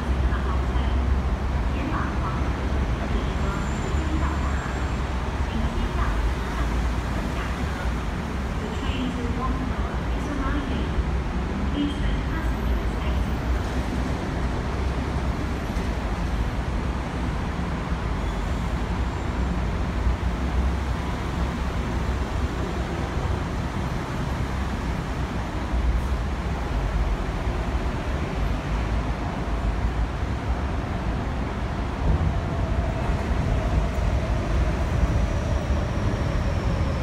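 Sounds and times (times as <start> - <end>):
city background rumble: 0.0 - 37.0
road traffic: 0.0 - 37.0.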